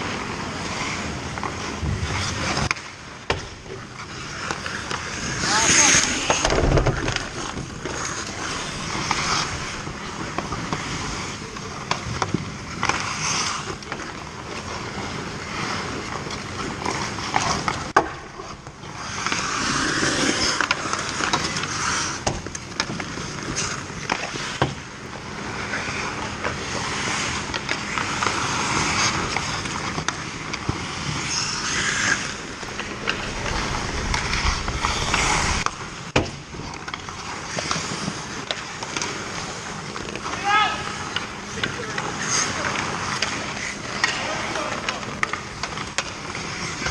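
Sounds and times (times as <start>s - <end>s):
hockey sticks and puck clacking: 0.0s - 33.2s, 34.8s - 46.9s
skates scraping on ice: 0.0s - 46.9s.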